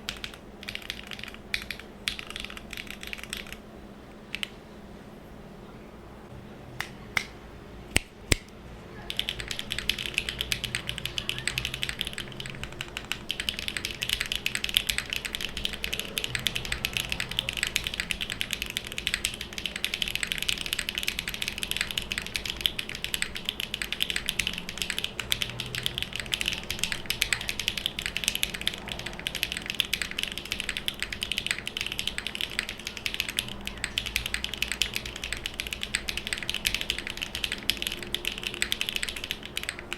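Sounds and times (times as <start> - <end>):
typing on mechanical keyboard: 0.0 - 3.6, 4.3 - 4.6, 9.1 - 39.9.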